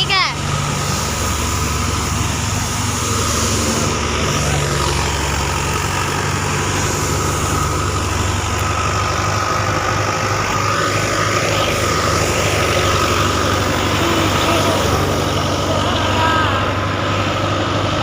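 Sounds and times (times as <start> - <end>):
farm machinery engine droning: 0.0 - 18.0
steady high whine: 0.0 - 18.0.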